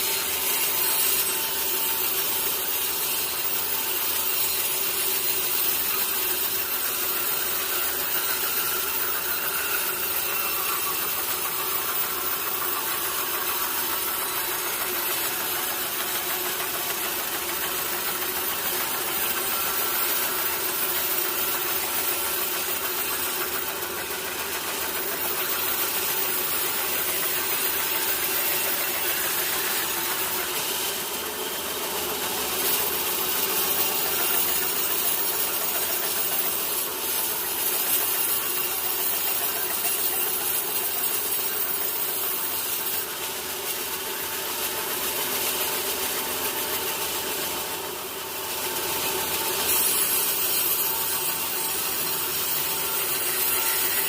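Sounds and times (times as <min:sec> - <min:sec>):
sawmill machinery sawing logs: 0:00.0 - 0:54.0.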